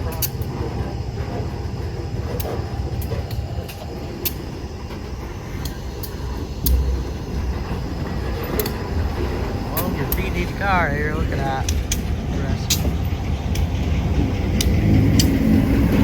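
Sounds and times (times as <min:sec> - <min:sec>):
freight train rumbling: 0:00.0 - 0:16.0
sharp clicks: 0:02.3 - 0:07.8, 0:08.4 - 0:16.0.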